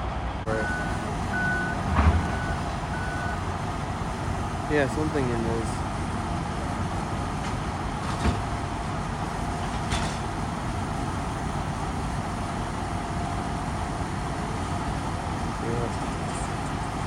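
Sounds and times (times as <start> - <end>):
heavy machinery rumbling: 0.0 - 17.0.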